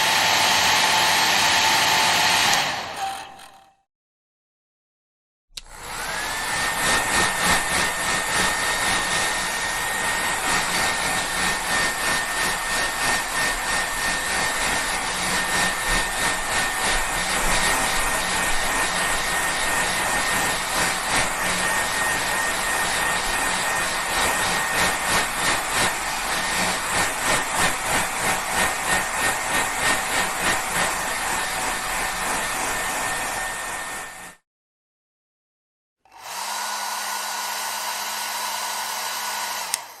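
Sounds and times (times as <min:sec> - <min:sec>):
hair dryer running: 0:00.0 - 0:03.5, 0:05.6 - 0:34.4, 0:36.1 - 0:40.0.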